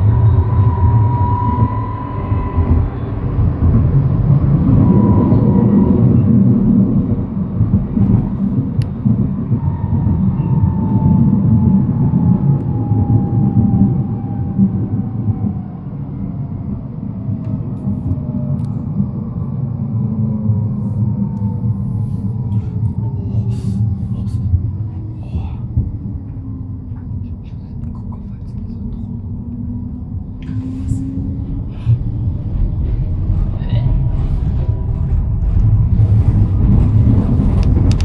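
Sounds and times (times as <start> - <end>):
tram wheels rumbling on rails: 0.0 - 38.0.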